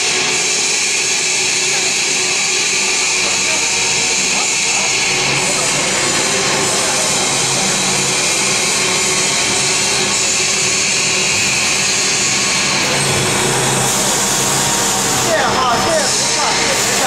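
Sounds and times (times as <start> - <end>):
low machine hum: 0.0 - 17.0
machine rushing hiss: 0.0 - 17.0.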